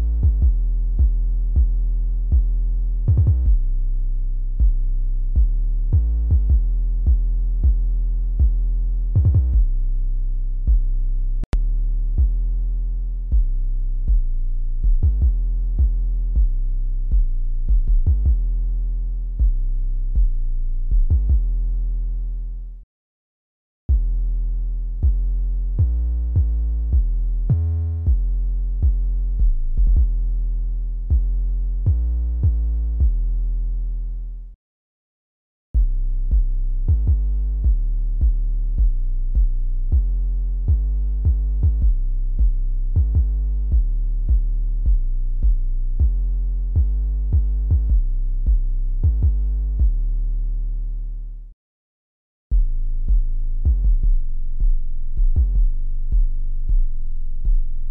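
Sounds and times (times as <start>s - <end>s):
deep bass line: 0.0s - 22.8s, 23.9s - 34.6s, 35.8s - 51.6s, 52.5s - 57.9s.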